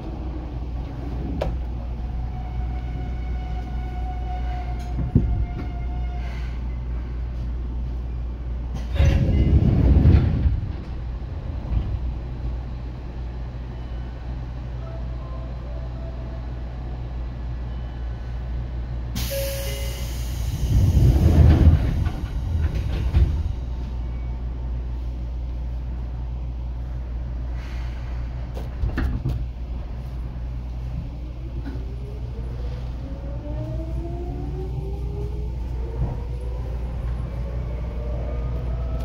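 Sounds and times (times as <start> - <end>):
train rumbling and clattering: 0.0 - 39.0.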